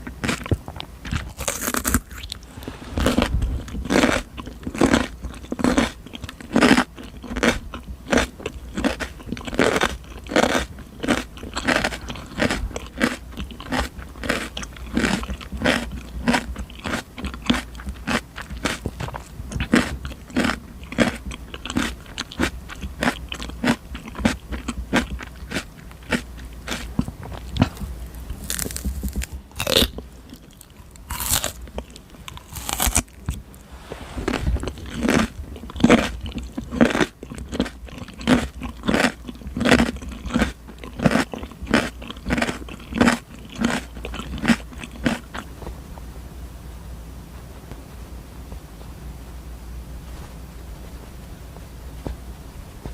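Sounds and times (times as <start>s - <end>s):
crunching and chewing cucumber: 0.0s - 33.6s, 34.3s - 45.8s.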